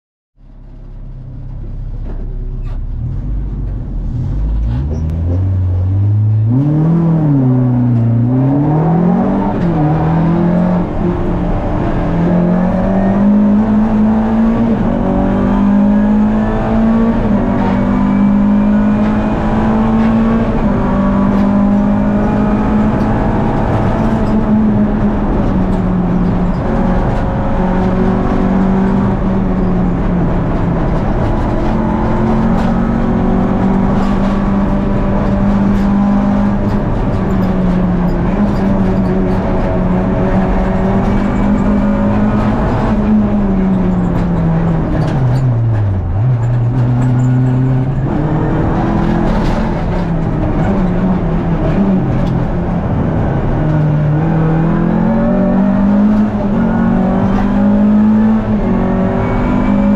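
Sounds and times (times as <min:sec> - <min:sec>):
car engine revving: 0:00.6 - 0:59.9.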